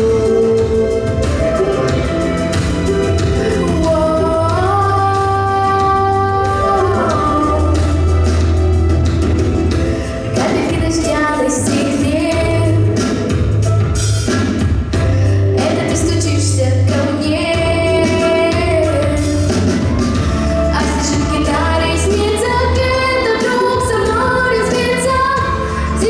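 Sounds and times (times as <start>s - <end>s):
woman singing: 0.0s - 8.6s, 10.1s - 13.3s, 15.5s - 26.0s
instrumental backing with bass: 0.0s - 26.0s.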